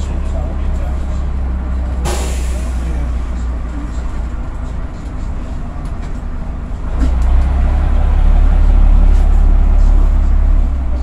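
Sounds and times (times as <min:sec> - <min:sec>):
bus diesel engine rumble: 0:00.0 - 0:11.0.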